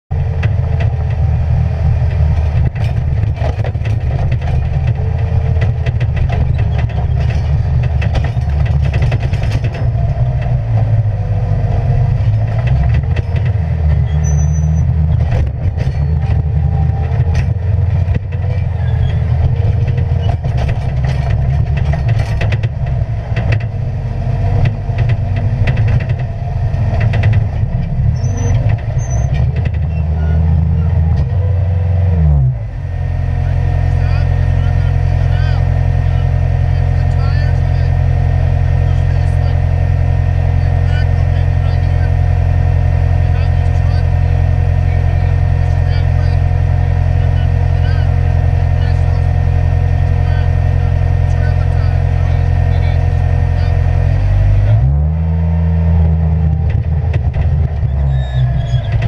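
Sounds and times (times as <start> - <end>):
loader diesel engine under load: 0.1 - 59.0.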